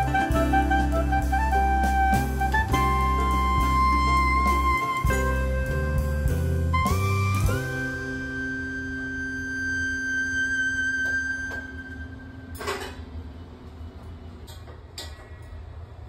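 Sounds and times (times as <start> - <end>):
background music held note: 0.0 - 13.2.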